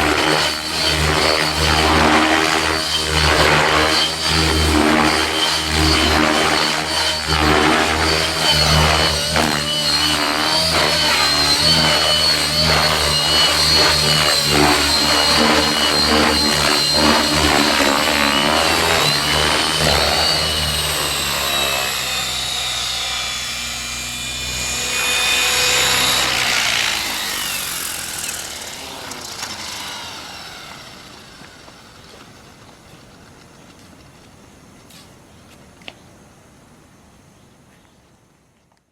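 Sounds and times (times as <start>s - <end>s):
rc helicopter motor whining: 0.0s - 33.2s.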